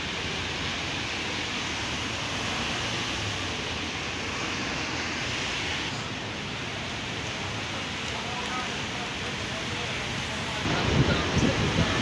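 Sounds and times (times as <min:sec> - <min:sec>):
tyres hissing on wet road: 0:00.0 - 0:12.0.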